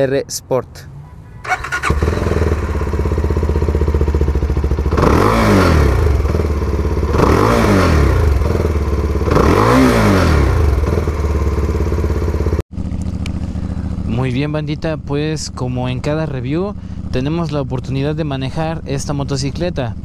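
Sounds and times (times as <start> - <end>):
motorcycle engine idling and revving: 0.9 - 20.0.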